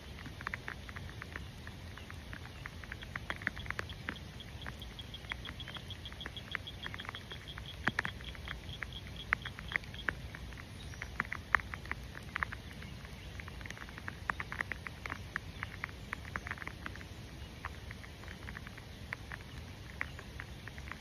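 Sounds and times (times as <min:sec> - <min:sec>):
faint high ticking: 0:00.0 - 0:21.0
rain pattering: 0:00.0 - 0:21.0.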